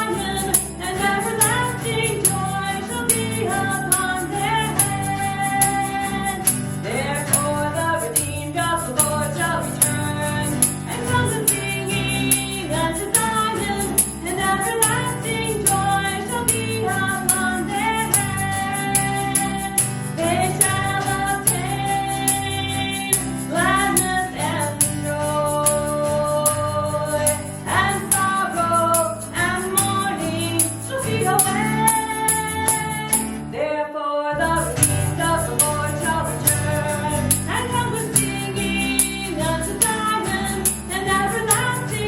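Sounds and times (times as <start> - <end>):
tambourine beat: 0.0 - 33.5, 34.4 - 42.0
woman singing: 0.0 - 42.0.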